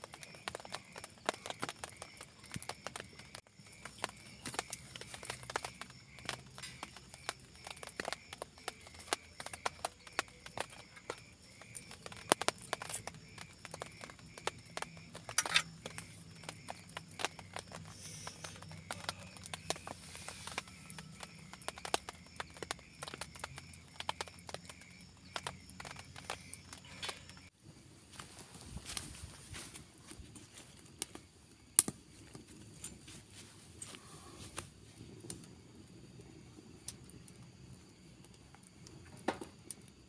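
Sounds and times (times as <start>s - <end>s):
rain dripping on tent: 0.0s - 40.0s.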